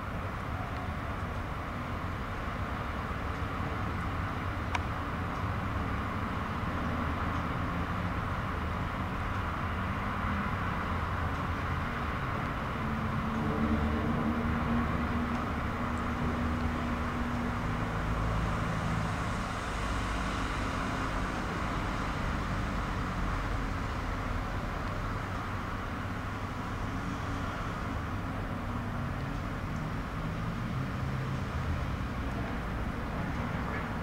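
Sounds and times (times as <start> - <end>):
continuous hiss: 0.0 - 34.0
ship engines droning: 0.0 - 34.0.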